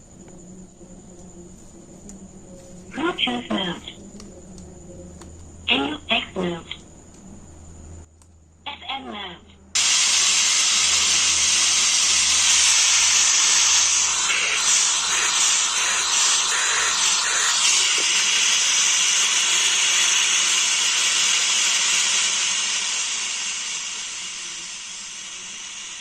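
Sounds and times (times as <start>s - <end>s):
radio static hiss: 1.1s - 4.6s, 5.7s - 6.8s, 8.7s - 26.0s.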